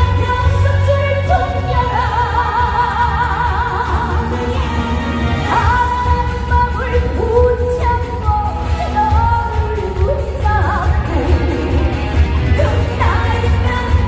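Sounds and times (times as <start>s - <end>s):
woman singing with band: 0.0s - 14.0s.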